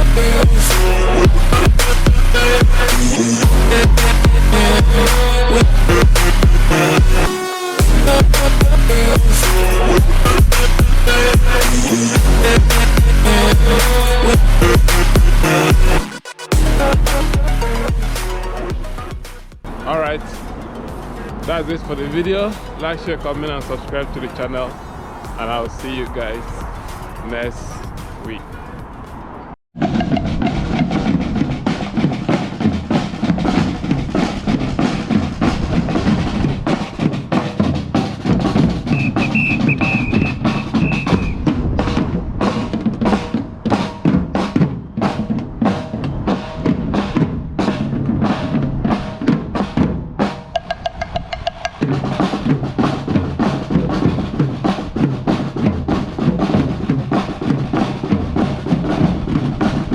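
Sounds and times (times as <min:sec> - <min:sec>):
music with drum beat: 0:00.0 - 0:24.7, 0:25.3 - 0:28.6, 0:29.8 - 0:59.9.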